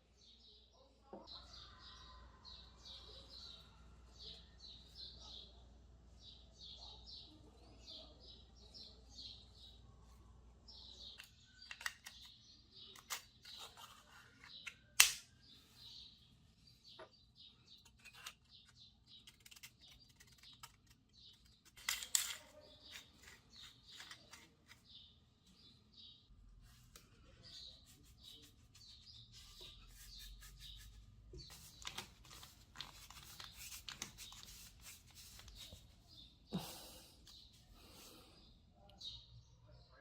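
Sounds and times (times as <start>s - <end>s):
small bird chirping: 6.2s - 26.3s, 27.1s - 40.0s.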